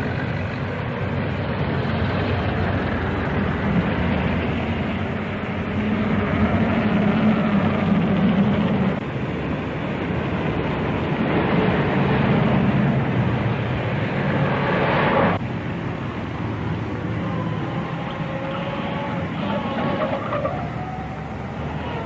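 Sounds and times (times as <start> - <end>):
mechanical engine-like rumble: 0.0 - 22.0.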